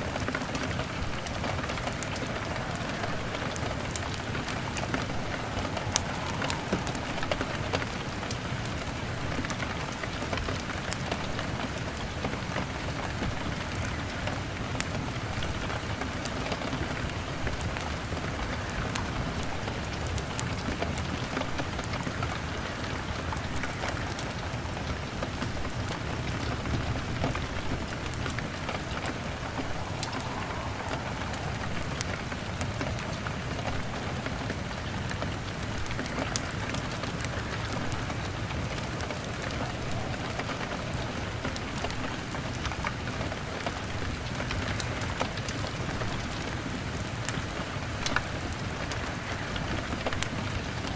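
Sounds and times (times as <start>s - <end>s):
log fire crackling: 0.0s - 45.7s
rain hitting a window: 0.0s - 50.9s.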